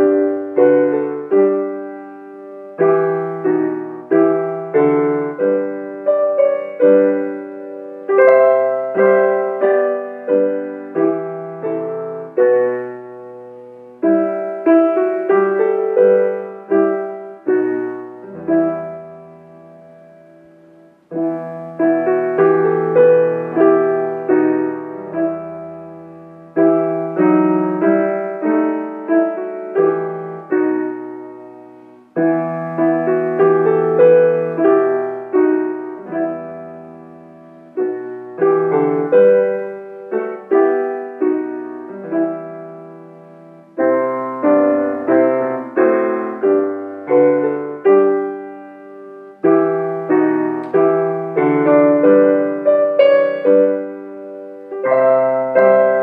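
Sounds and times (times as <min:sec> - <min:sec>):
piano playing hymn chords: 0:00.0 - 0:56.0.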